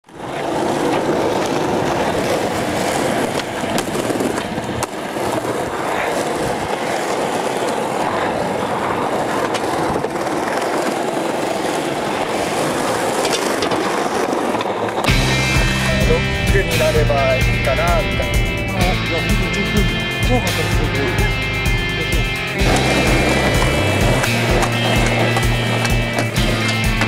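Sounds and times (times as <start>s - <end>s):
skateboard wheels rolling on concrete: 0.0s - 27.0s.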